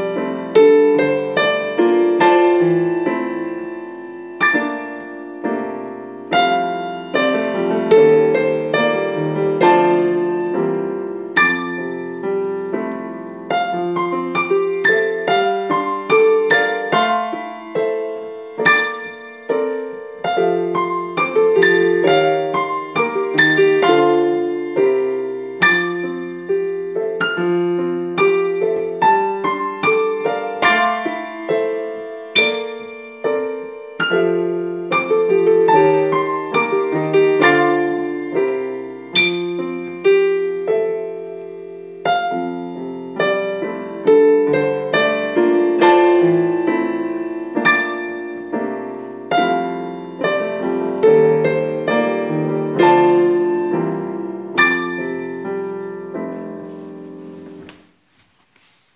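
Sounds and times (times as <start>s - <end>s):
digital piano duet: 0.0s - 58.1s.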